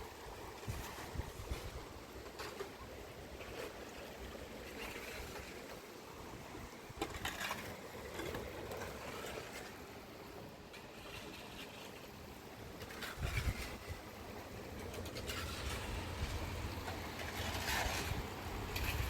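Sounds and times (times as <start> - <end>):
water noise: 0.0 - 19.0.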